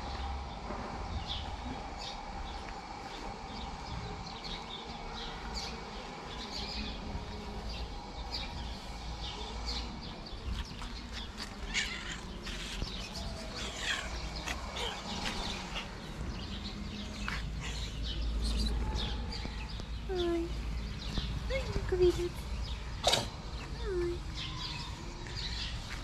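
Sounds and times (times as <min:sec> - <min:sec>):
low background rumble: 0:00.0 - 0:26.0
small birds chirping: 0:00.0 - 0:26.0.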